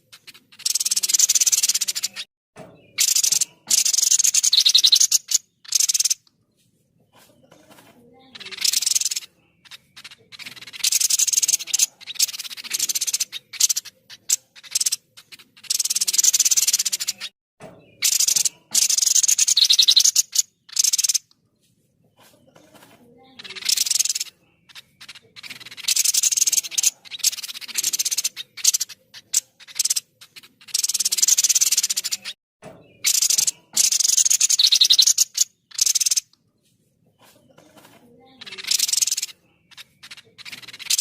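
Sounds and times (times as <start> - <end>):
bird harsh rapid chattering: 0.0 - 6.3, 7.6 - 21.3, 23.3 - 36.4, 37.6 - 41.0.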